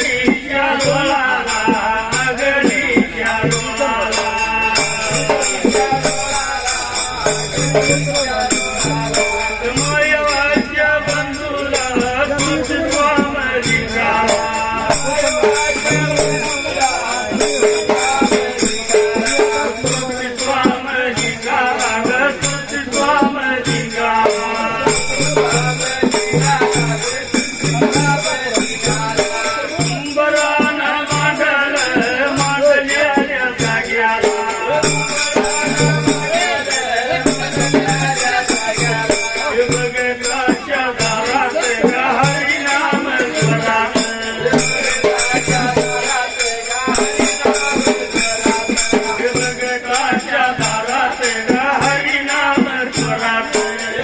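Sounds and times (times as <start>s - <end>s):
drum beats: 0.0s - 54.0s
rattling jingling percussion: 0.0s - 54.0s.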